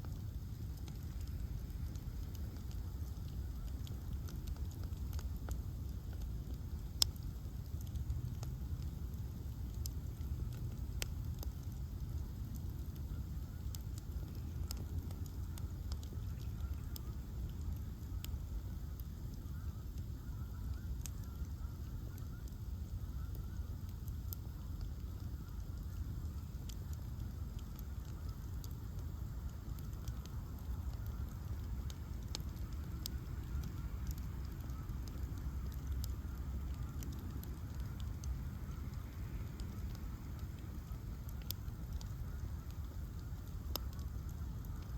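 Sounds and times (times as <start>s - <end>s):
bonfire crackling: 0.0s - 44.9s.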